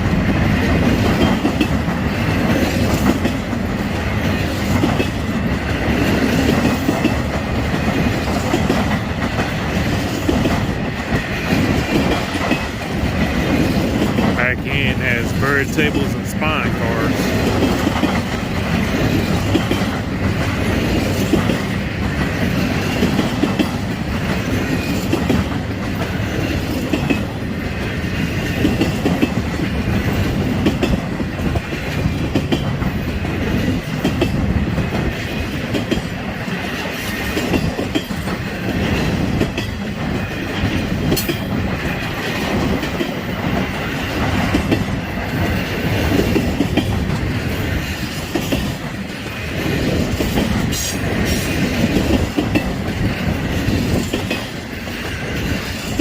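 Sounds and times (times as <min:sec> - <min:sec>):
freight train wheels clattering: 0:00.0 - 0:14.4, 0:17.1 - 0:56.0.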